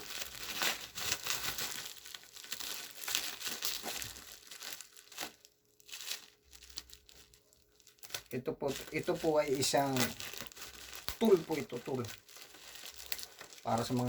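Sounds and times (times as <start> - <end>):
packaging crinkling and tearing: 0.0 - 14.0.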